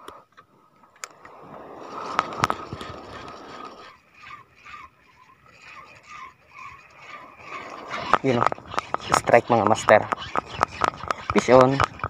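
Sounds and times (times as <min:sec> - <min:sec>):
fishing reel whirring: 0:01.0 - 0:12.0.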